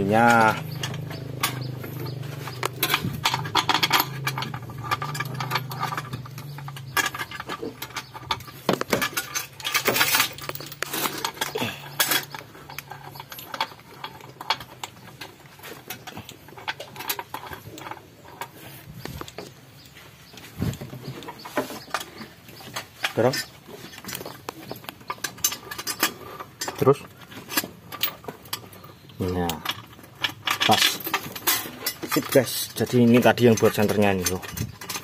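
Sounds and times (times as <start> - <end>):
hand tools and bolts clinking: 0.0 - 35.0.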